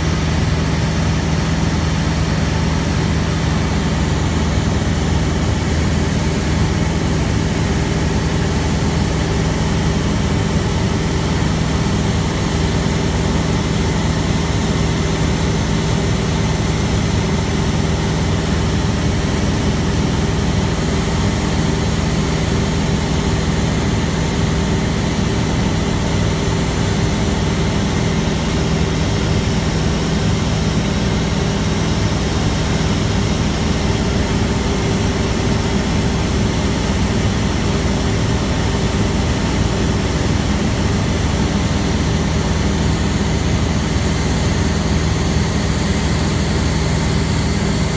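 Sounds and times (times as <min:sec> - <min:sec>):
propeller engine drone: 0:00.0 - 0:47.9.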